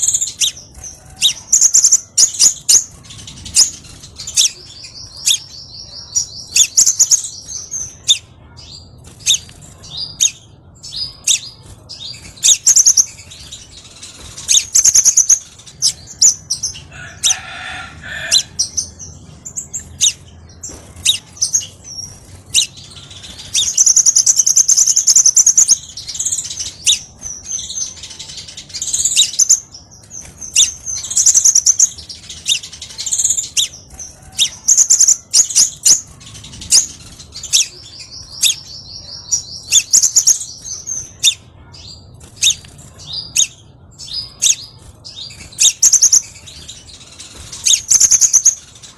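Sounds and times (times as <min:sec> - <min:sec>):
bird chirping and trilling: 0:00.0 - 0:48.9.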